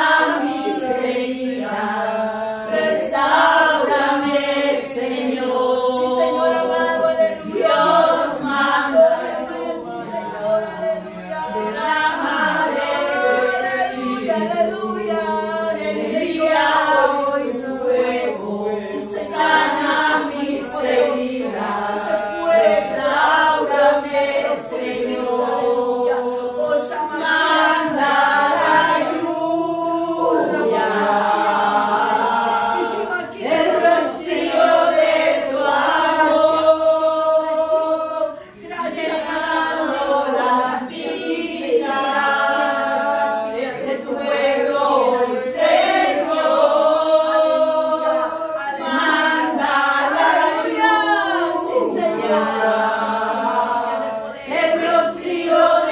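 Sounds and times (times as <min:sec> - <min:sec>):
congregation singing: 0:00.0 - 0:55.9.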